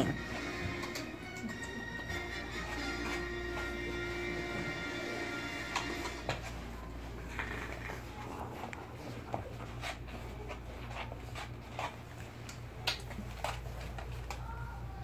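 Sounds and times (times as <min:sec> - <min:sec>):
puppies licking and snuffling: 0:00.0 - 0:15.0.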